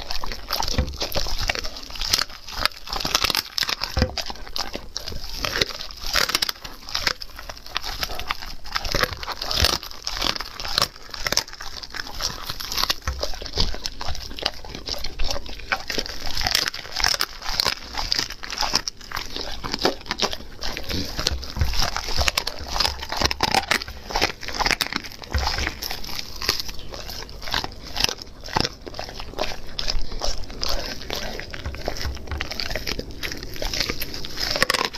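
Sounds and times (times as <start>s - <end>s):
dog chewing meat on bone: 0.0s - 34.9s.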